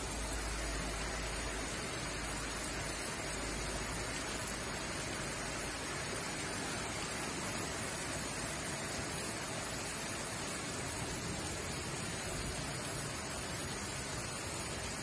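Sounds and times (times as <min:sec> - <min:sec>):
heavy rain on roofs and pavement: 0:00.0 - 0:15.0.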